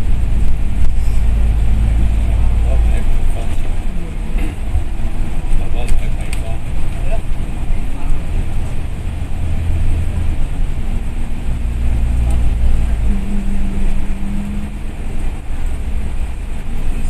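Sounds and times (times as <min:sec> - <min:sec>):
bus engine and road noise: 0:00.0 - 0:17.0.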